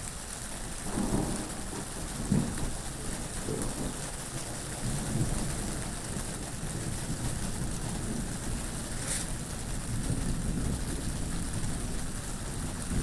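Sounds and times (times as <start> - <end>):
steady rain: 0.0 - 13.0
wind: 0.0 - 13.0.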